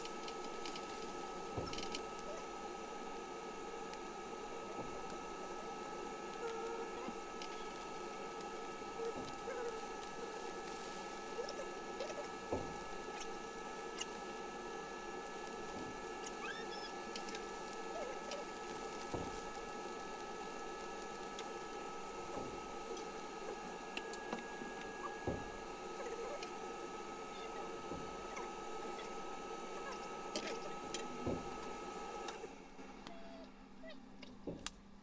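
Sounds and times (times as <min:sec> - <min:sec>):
steady kitchen hum: 0:00.0 - 0:35.0.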